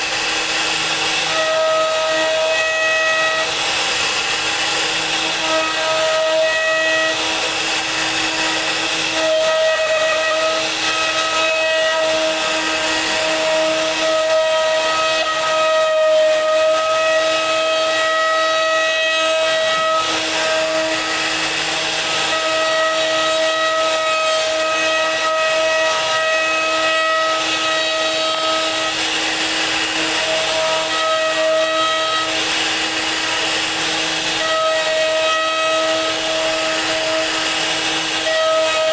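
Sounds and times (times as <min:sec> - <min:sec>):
bit routing wood hiss: 0:00.0 - 0:38.9
router spindle whine: 0:00.0 - 0:38.9.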